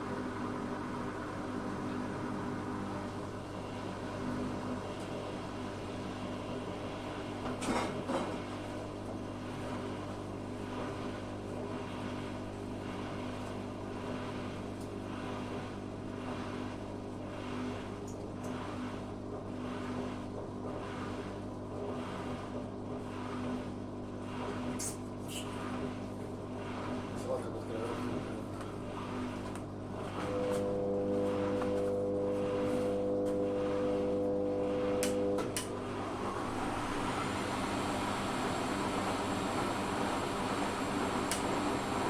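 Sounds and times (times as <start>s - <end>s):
washing machine motor hum: 0.0s - 42.0s.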